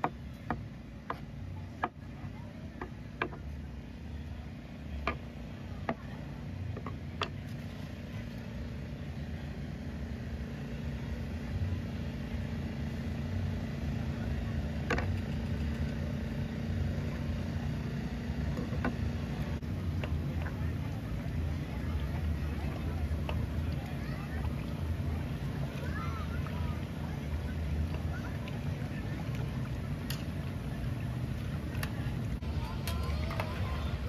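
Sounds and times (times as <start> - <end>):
low mechanical rumble: 0.0 - 34.0.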